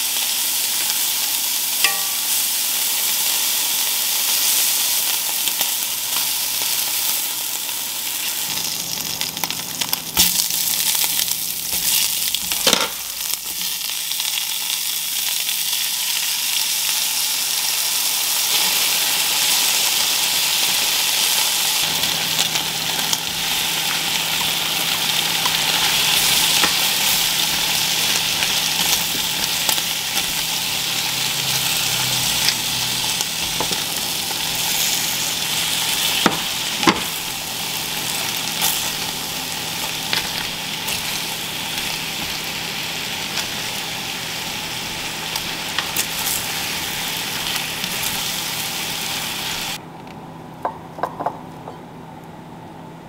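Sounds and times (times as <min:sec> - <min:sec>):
vegetables sizzling in a skillet: 0:00.0 - 0:49.8.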